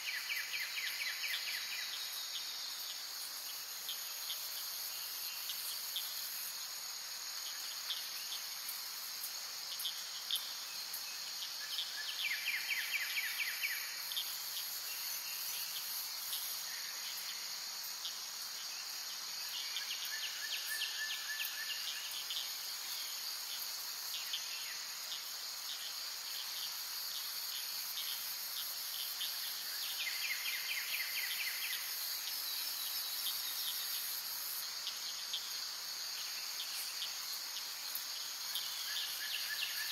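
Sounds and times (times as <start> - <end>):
high-pitched insect chorus: 0.0 - 39.9
rapid pulsing insect trills: 0.0 - 39.9.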